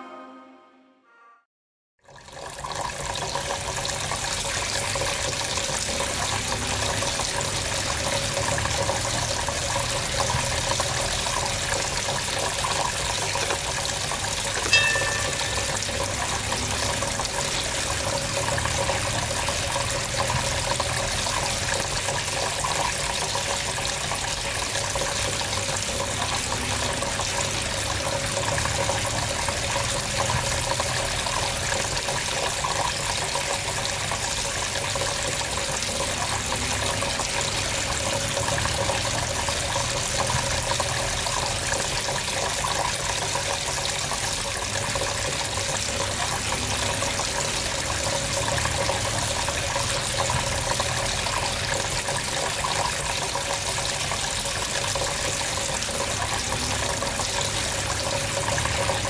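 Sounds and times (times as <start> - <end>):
water streams splashing into basin: 2.1 - 59.0.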